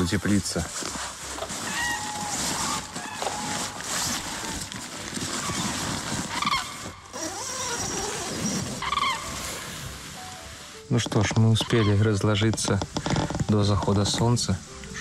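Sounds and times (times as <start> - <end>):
tent fabric and mat rustling: 0.0 - 15.0.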